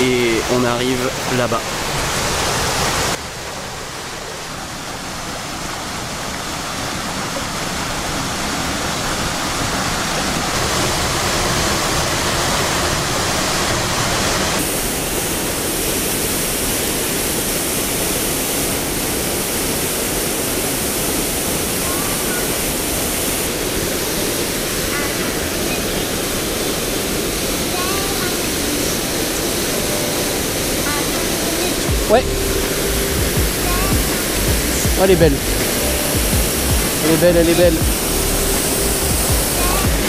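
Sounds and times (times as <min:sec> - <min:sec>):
waterfall roaring into pool: 0:00.0 - 0:40.0.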